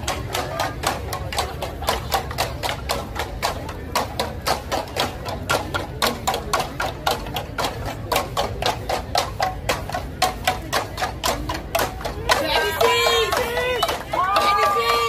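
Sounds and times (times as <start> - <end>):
bamboo tubes struck with sticks: 0.0 - 15.0.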